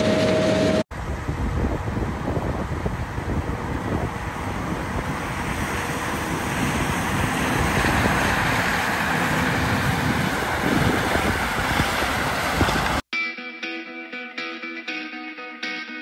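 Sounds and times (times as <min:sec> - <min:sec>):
heavy farm machinery engine rumble: 0:00.0 - 0:13.0.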